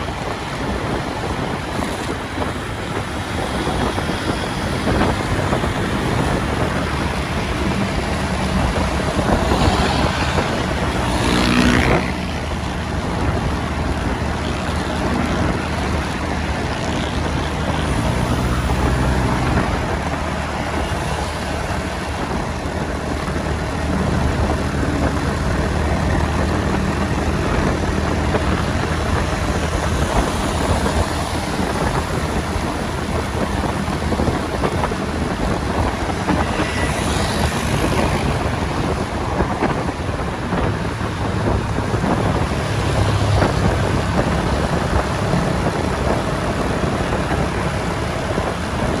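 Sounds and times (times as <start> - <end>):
wind over microphone: 0.0 - 49.0
motorbike engine running: 0.1 - 49.0.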